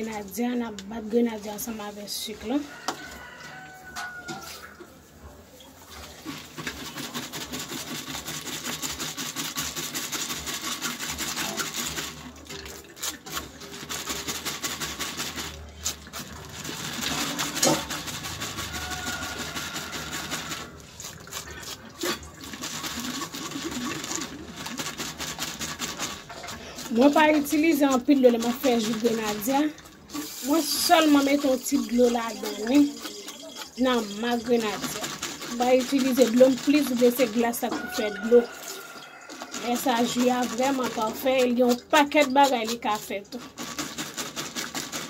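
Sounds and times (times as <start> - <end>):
wet gritty scraping on mesh strainer: 5.9 - 45.0.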